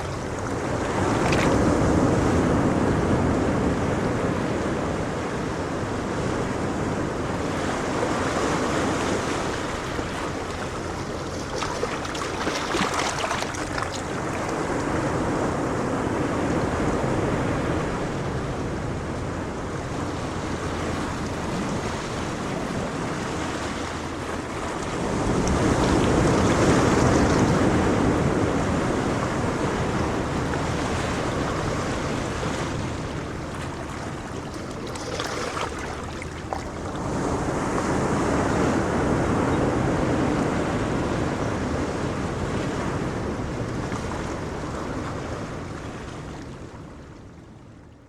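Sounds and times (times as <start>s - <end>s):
sea waves breaking: 0.0s - 47.8s.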